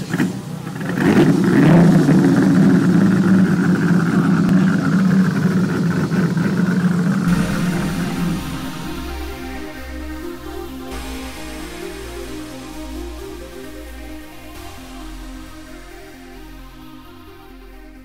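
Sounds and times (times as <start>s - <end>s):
sports car engine running: 0.0s - 17.1s
electronic music: 0.0s - 18.0s.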